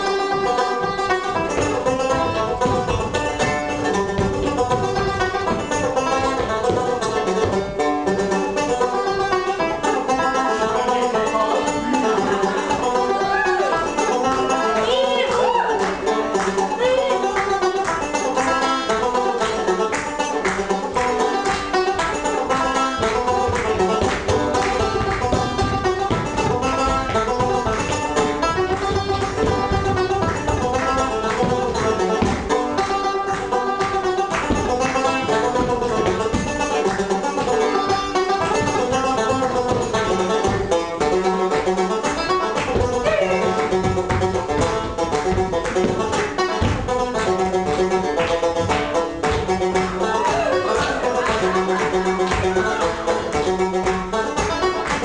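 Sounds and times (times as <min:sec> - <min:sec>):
instrumental folk dance tune: 0:00.0 - 0:55.0.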